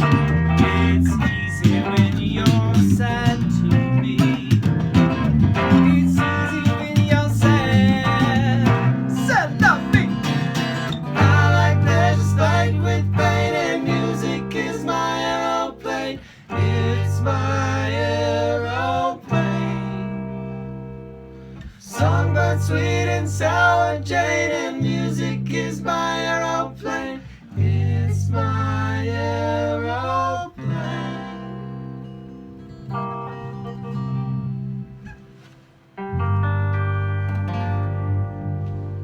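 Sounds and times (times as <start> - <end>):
low bass notes: 0.0 - 39.0
plucked acoustic guitar: 0.0 - 39.0.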